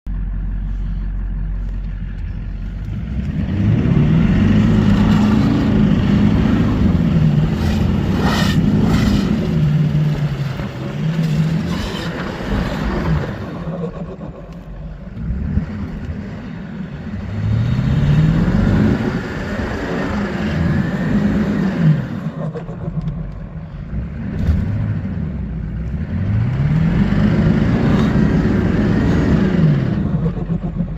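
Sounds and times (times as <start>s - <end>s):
diesel engine revving: 0.1s - 30.9s.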